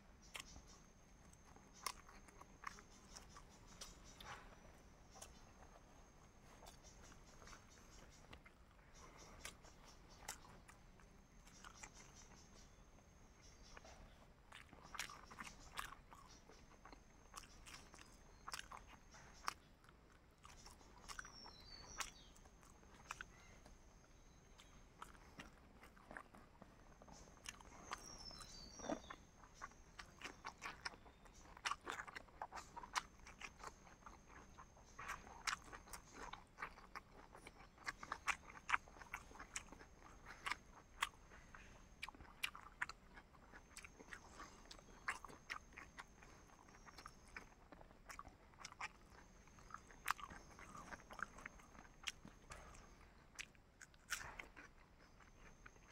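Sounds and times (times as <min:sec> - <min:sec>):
wet biting and chewing: 0:00.2 - 0:12.7, 0:13.4 - 0:55.9.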